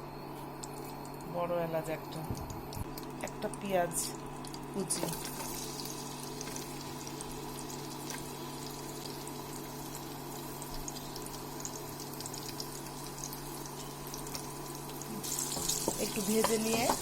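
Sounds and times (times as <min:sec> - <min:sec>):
onion sizzling in a frying pan: 0:02.8 - 0:17.0.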